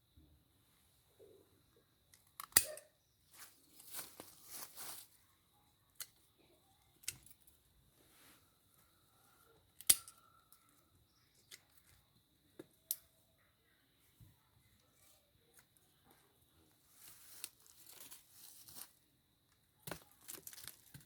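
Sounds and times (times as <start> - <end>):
faint high-pitched whine: 0.0 - 21.0.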